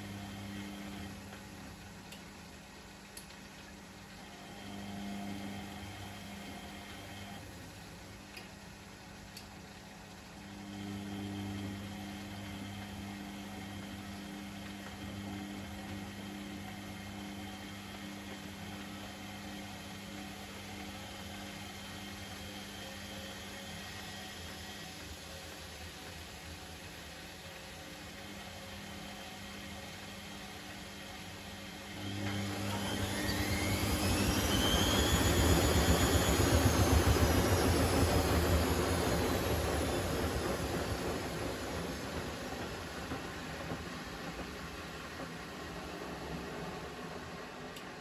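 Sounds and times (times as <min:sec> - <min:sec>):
washing machine humming: 0:00.0 - 0:48.0.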